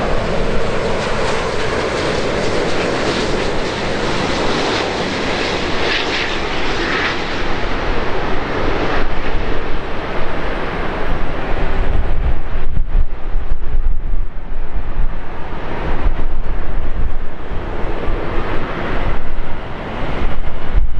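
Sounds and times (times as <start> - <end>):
jet airliner engine roar: 0.0 - 20.9.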